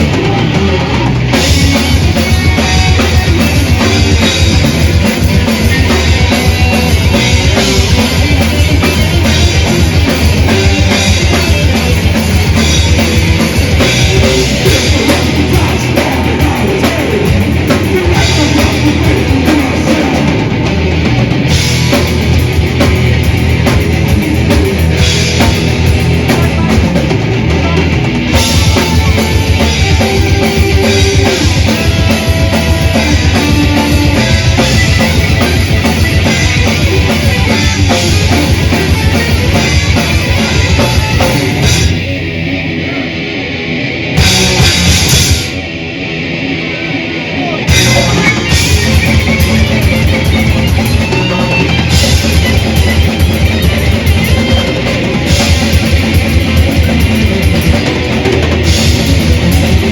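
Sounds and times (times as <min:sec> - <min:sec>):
fast dense drumming: 0:00.0 - 0:42.8, 0:44.1 - 0:45.6, 0:47.6 - 0:59.9
bass guitar: 0:00.0 - 0:59.9
distorted electric guitars: 0:00.0 - 0:59.9
metal band playing: 0:00.0 - 0:59.9.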